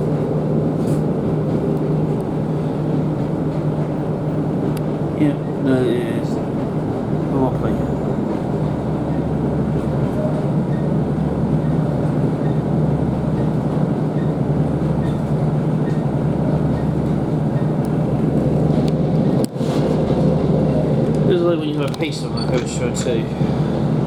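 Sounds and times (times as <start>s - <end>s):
diesel train hum: 0.0s - 24.0s.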